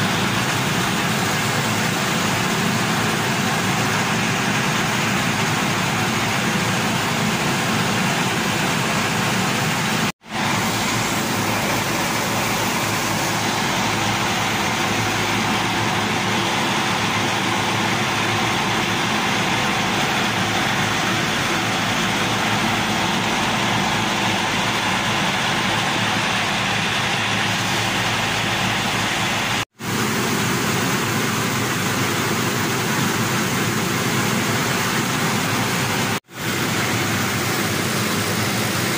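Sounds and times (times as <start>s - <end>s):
mill machinery running: 0.0s - 38.9s.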